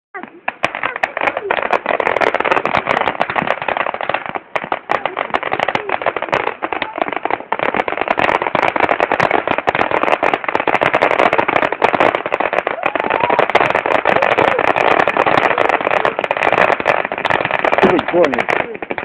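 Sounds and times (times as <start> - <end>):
firework battery crackling pops: 0.2 - 19.0.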